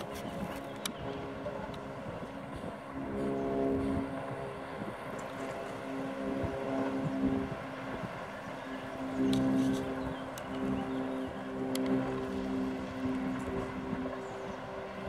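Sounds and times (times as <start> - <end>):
motor drone: 0.0 - 15.0.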